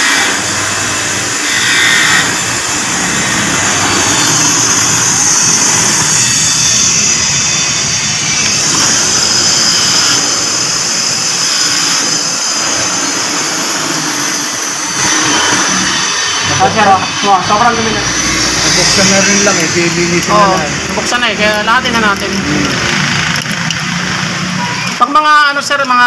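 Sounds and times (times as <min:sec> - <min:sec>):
bench grinder whirring: 0:00.0 - 0:25.0.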